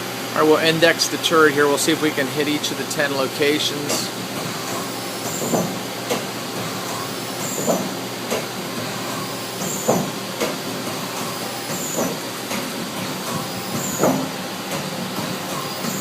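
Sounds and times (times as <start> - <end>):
lathe turret hiss and clunks: 0.0 - 16.0
machine hum and hiss: 0.0 - 16.0.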